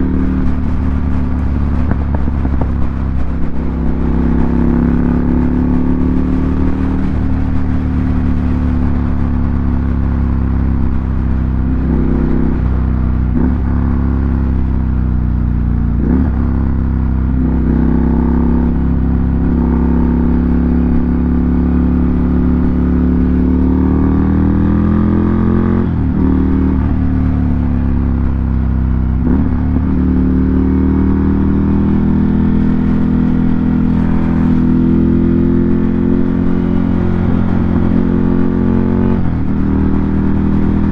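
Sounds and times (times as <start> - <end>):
motorcycle engine running loud: 0.0 - 40.9.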